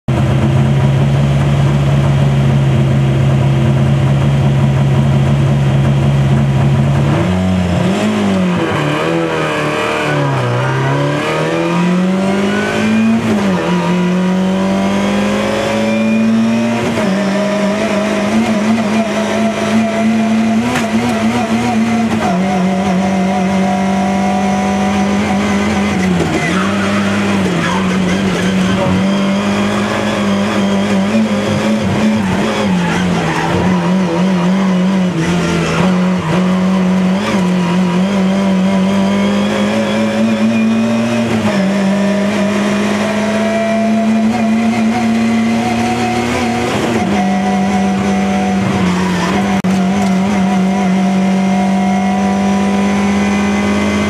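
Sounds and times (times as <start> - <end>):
rally car engine revving: 0.1 - 54.0.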